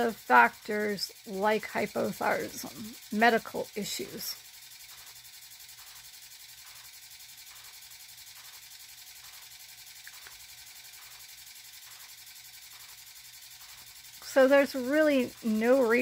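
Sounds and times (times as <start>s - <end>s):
faint even pulsing: 0.0s - 16.0s.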